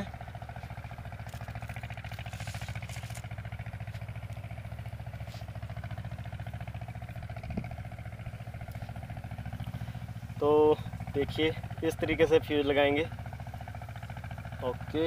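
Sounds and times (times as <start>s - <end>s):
engine chugging: 0.0s - 15.0s.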